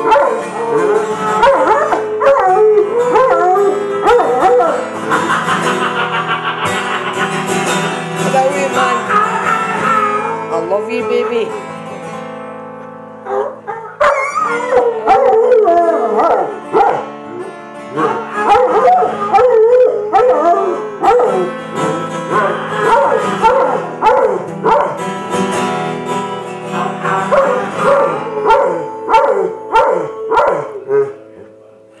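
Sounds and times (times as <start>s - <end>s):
dog howling: 0.0s - 10.7s, 13.3s - 25.0s, 26.6s - 31.4s
acoustic guitar chords: 0.0s - 32.0s.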